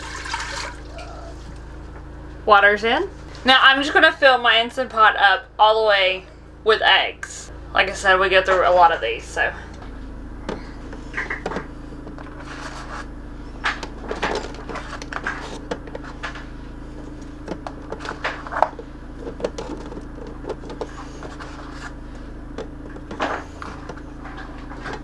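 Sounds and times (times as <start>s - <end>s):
generator hum: 0.0s - 25.0s.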